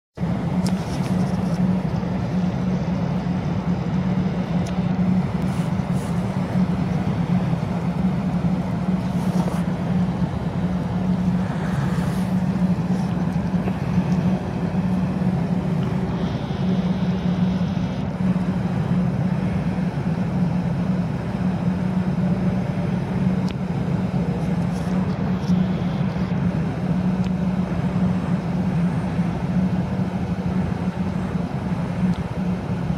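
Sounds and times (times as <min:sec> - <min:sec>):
engine droning: 0:00.2 - 0:32.9.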